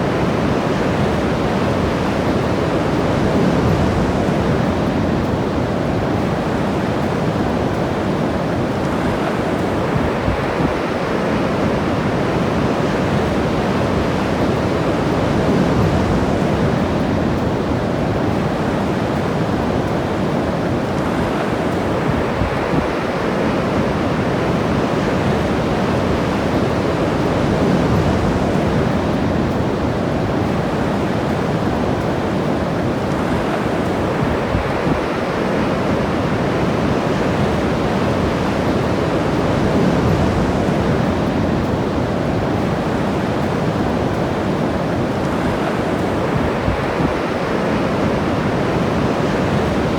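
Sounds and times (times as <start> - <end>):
ocean surf breaking: 0.0 - 49.9
wind on microphone: 0.0 - 49.9.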